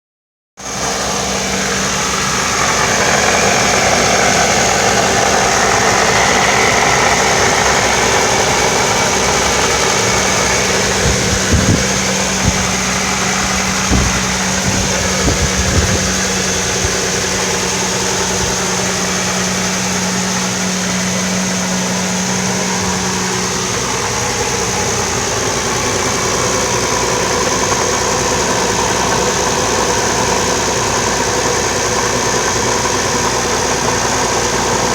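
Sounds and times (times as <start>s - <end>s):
car engine idling: 0.6s - 34.9s
supercharger droning tone: 0.6s - 34.9s.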